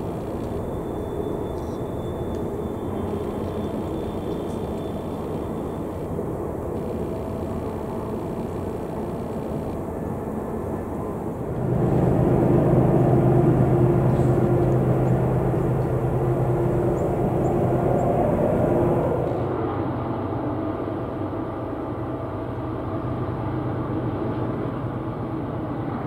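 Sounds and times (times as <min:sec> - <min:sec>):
steady hum: 0:00.0 - 0:25.6
diesel locomotives rumbling: 0:00.0 - 0:26.0.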